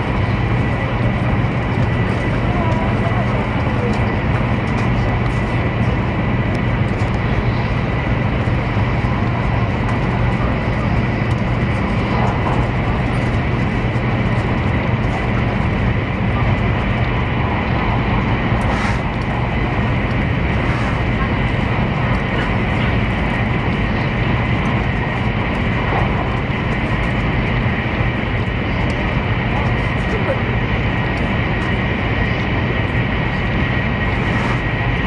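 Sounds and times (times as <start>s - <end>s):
train rumble inside cabin: 0.0s - 35.0s.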